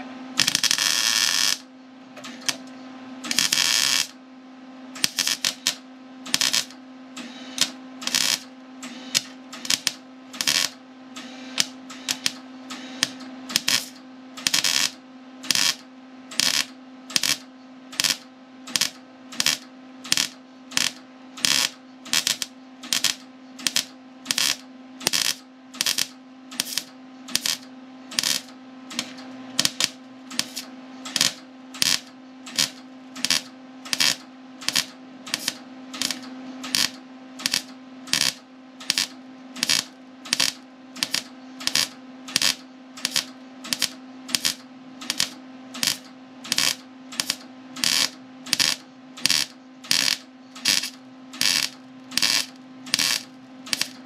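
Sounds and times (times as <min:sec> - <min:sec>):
steady hum: 0:00.0 - 0:54.0
welding arc bursts: 0:00.4 - 0:01.7, 0:03.3 - 0:04.2, 0:05.0 - 0:06.8, 0:07.6 - 0:10.8, 0:11.6 - 0:12.4, 0:13.0 - 0:54.0.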